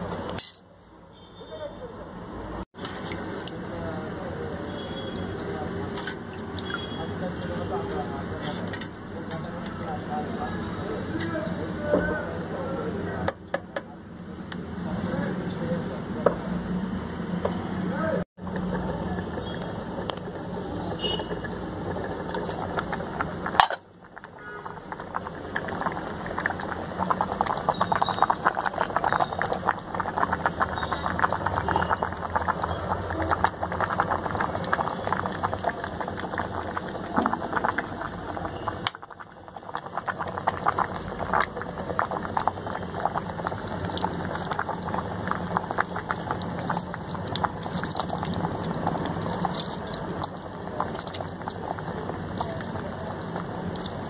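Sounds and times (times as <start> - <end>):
curry bubbling and popping: 2.7 - 17.7, 18.4 - 54.0.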